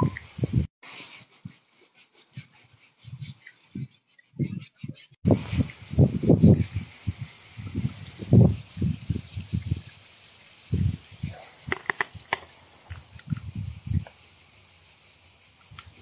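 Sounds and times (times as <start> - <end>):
cicadas buzzing: 0.0 - 4.4, 5.1 - 16.0.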